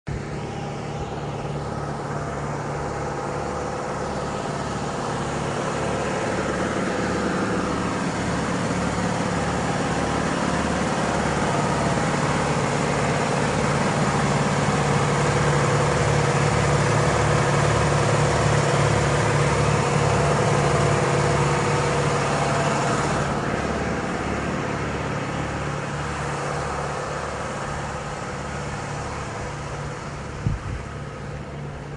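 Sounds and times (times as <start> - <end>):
vehicle engine running: 0.0 - 31.9.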